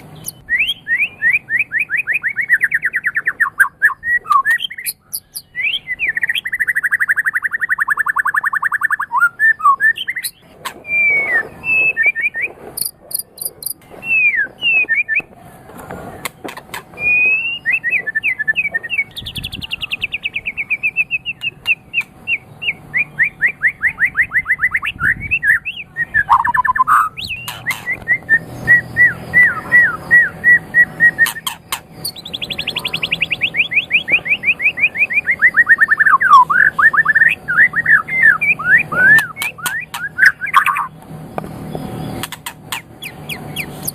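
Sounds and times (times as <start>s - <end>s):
songbird singing varied song: 0.0s - 15.3s, 17.0s - 43.9s.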